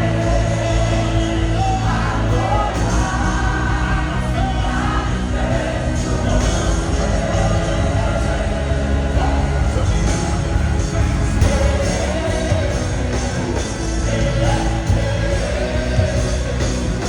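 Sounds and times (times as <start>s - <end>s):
singing: 0.0s - 17.0s.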